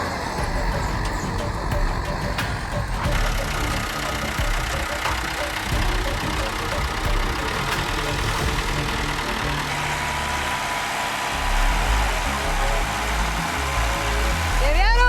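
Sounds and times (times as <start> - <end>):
farm machine engine rumbling: 0.0 - 14.6.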